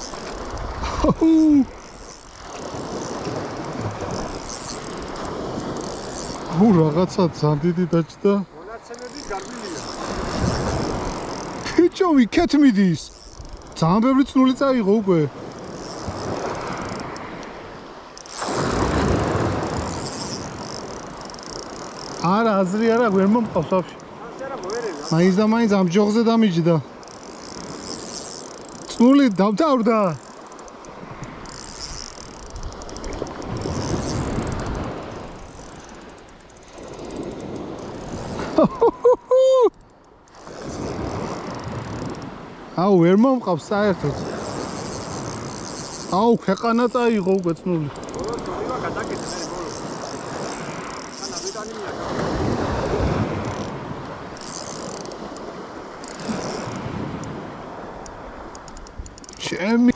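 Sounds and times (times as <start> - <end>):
sharp ticks: 0.0 - 7.0, 8.8 - 42.4, 43.4 - 57.4, 58.0 - 59.9
fishing reel drag clicking: 0.0 - 7.3, 7.9 - 59.9
sea noise: 0.0 - 59.9
wind: 0.0 - 59.9.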